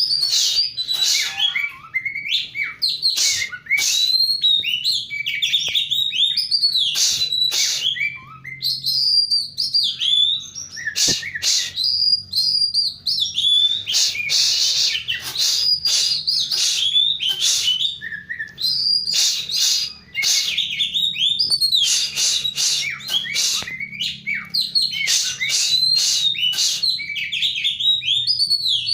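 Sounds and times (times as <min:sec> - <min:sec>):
bird singing whistles and chatter: 0:00.0 - 0:28.9.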